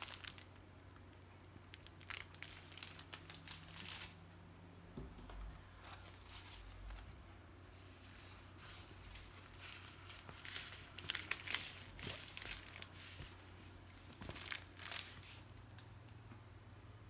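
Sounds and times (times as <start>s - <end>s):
plastic wrapping crinkling: 0.0s - 4.2s, 5.2s - 15.9s.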